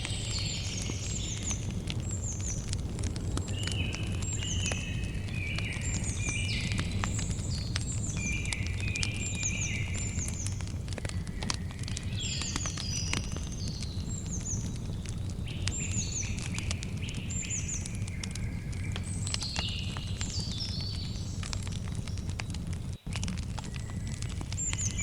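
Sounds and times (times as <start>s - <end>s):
birds chirping: 0.0s - 25.0s
campfire crackling and popping: 0.0s - 25.0s
low rumble of fire: 0.0s - 25.0s.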